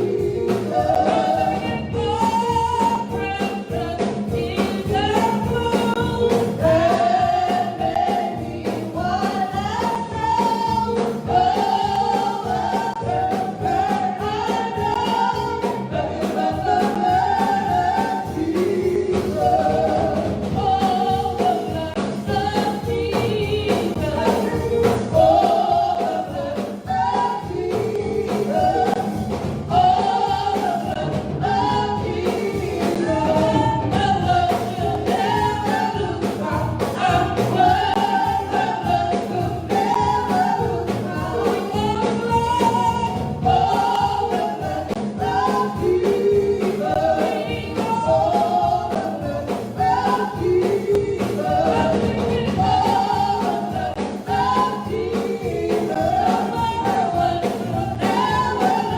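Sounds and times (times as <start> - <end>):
gospel choir singing: 0.0 - 58.9.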